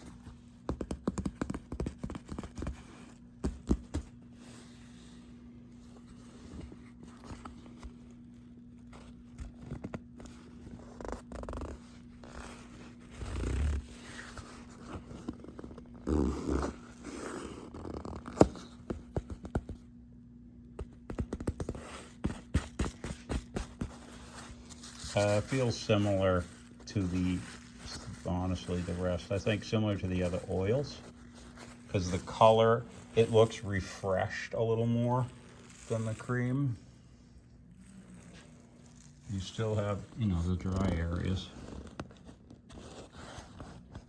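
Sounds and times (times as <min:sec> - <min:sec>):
leather creaking and rubbing: 0:00.0 - 0:19.6, 0:20.9 - 0:36.8, 0:37.5 - 0:44.0
faint steady hum: 0:00.0 - 0:44.0.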